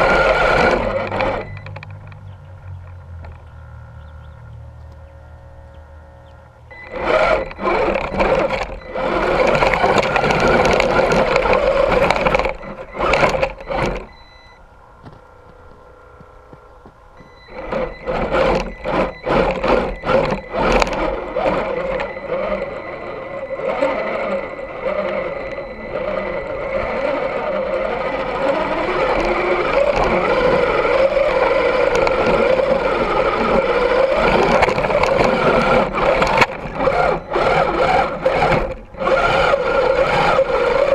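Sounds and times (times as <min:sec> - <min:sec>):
toy truck electric motor whining: 0:00.0 - 0:02.0, 0:05.5 - 0:15.2, 0:17.2 - 0:40.9.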